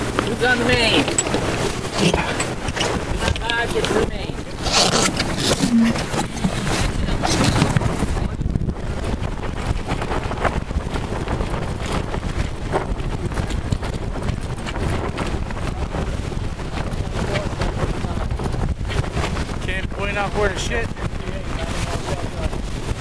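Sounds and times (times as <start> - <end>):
water splashing along hull: 0.0 - 23.0
wind buffeting microphone: 0.0 - 23.0.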